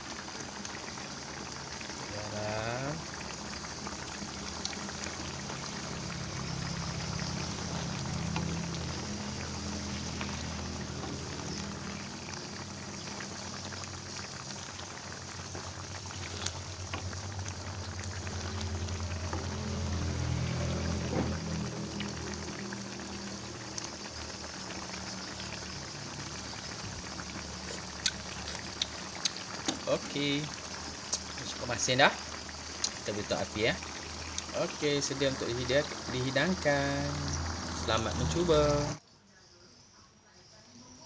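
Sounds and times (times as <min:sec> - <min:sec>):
curry bubbling at a simmer: 0:00.0 - 0:39.0.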